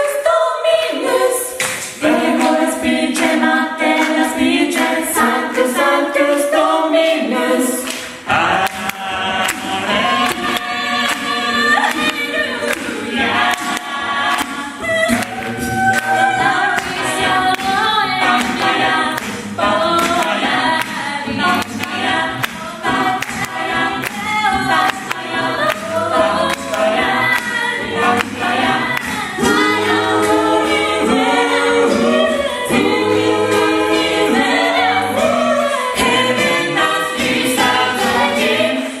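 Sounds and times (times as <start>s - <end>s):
a cappella group singing gospel: 0.0s - 39.0s.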